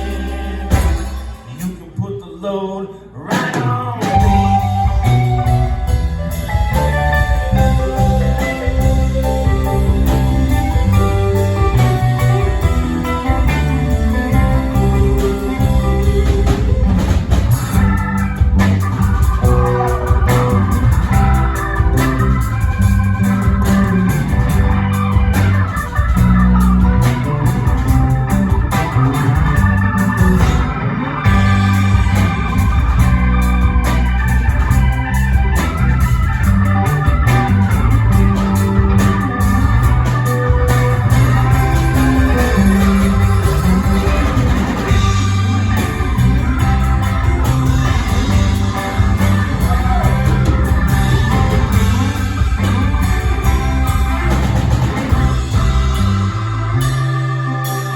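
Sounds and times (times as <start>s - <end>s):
electric organ chords: 0.0s - 2.2s, 4.1s - 57.9s
bass line: 0.0s - 57.9s.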